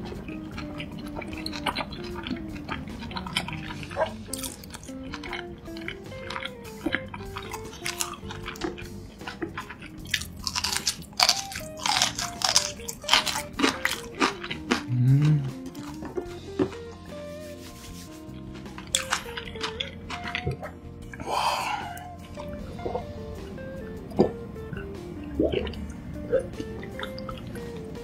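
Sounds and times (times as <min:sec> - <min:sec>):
chewing food with crunches: 0:00.0 - 0:16.8, 0:18.3 - 0:23.1, 0:24.1 - 0:27.9
soft background music: 0:00.0 - 0:28.0.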